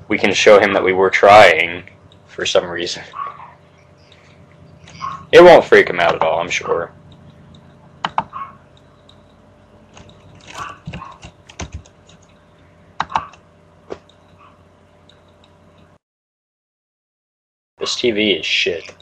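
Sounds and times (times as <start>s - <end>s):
faint steady hum: 0.0s - 16.0s, 17.8s - 19.0s.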